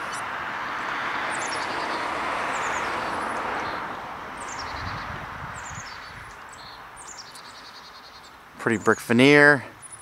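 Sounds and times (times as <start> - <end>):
vehicle passing on road: 0.0 - 8.7
bird chirping: 1.2 - 10.0.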